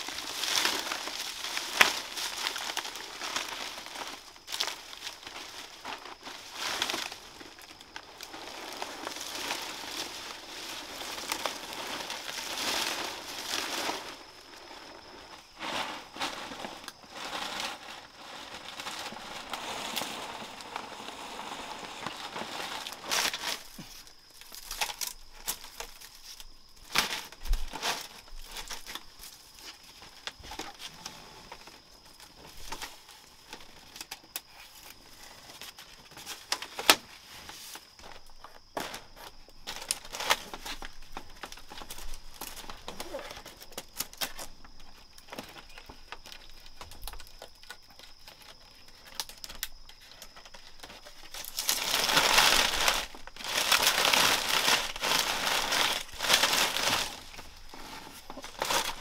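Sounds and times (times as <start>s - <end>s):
material rustling and crinkling: 0.0s - 59.0s.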